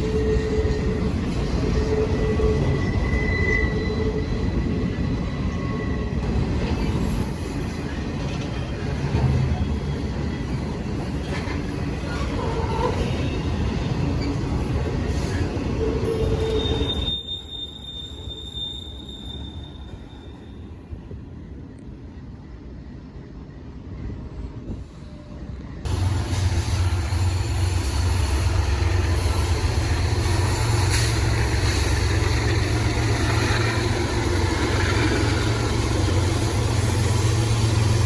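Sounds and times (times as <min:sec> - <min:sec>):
rumble of train cars: 0:00.0 - 0:38.0
train wheels squealing on rails: 0:00.0 - 0:38.0.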